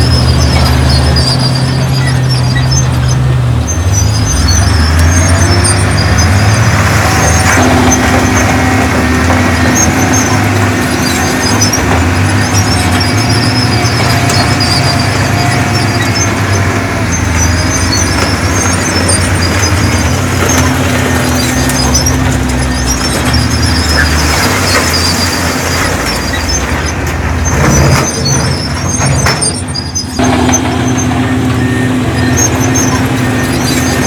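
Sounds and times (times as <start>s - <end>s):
deep diesel engine: 0.0s - 34.0s
high squeaks: 0.0s - 34.0s.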